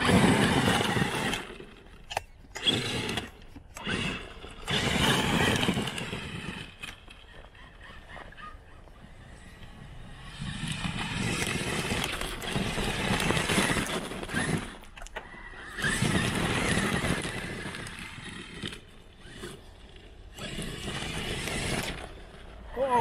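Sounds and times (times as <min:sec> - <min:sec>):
electric motor whining: 0:00.0 - 0:23.0
tires churning snow: 0:00.0 - 0:23.0.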